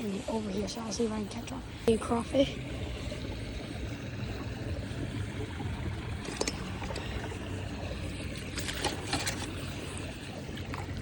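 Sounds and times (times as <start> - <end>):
shallow creek water running: 0.0 - 11.0.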